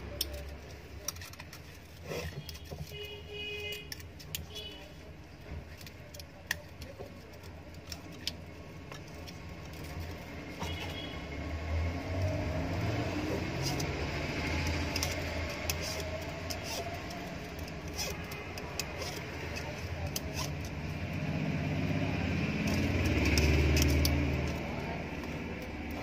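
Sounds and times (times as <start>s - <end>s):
wire clicks and rustles: 0.0s - 26.0s.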